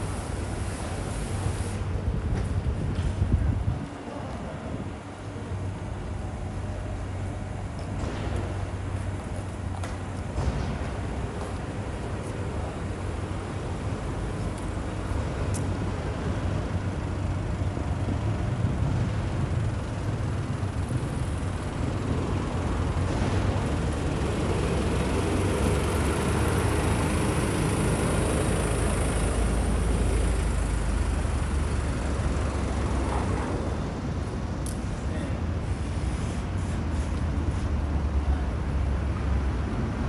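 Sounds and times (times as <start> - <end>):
passing vehicles rumble: 0.0 - 40.0.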